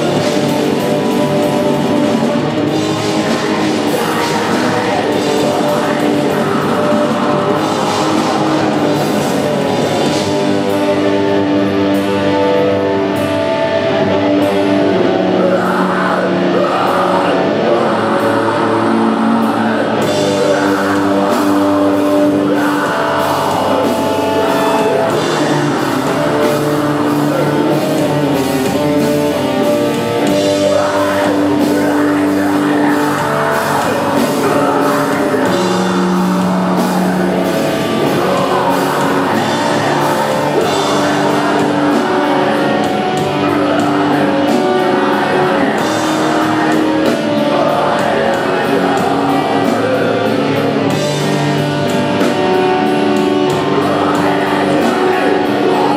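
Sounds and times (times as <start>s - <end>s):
distorted guitars: 0.0s - 55.9s
drums: 0.0s - 55.9s
person singing: 0.0s - 55.9s.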